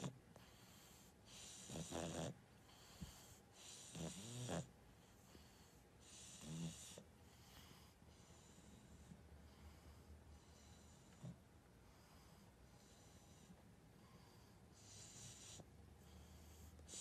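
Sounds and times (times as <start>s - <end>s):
dog breathing noisily through nose: 0.0s - 17.0s.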